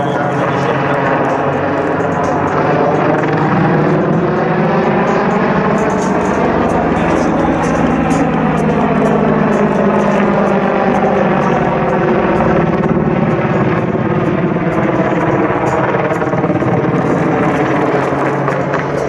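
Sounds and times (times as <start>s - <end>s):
helicopter rotors and engines: 0.0s - 19.0s.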